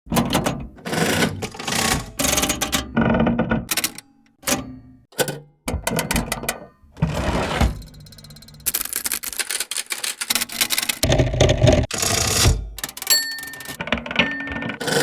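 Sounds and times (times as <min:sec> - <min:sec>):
cash register key clacks: 0:00.1 - 0:06.7, 0:07.6 - 0:15.0
clattering gears and levers: 0:00.1 - 0:15.0.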